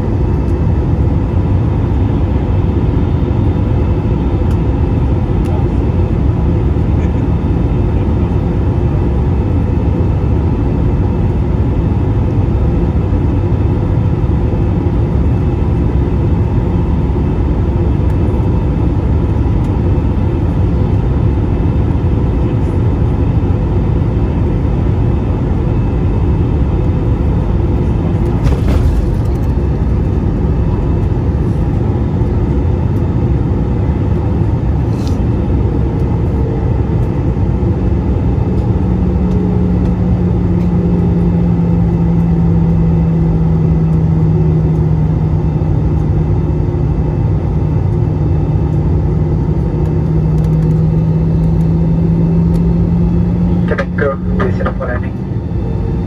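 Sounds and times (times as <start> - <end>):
airplane cabin roar: 0.0 - 56.0
low hum sinking in pitch: 0.0 - 56.0.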